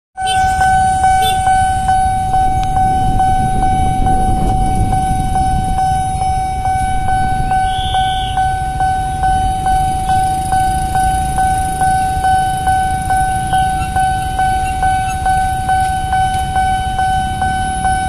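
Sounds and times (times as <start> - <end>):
level crossing alarm tone: 0.2 - 18.0
road traffic rumble: 0.2 - 18.0.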